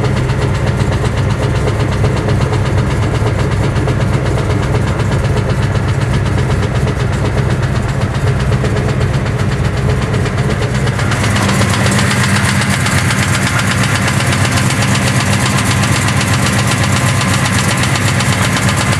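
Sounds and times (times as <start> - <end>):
engine running with ticking: 0.0 - 18.9.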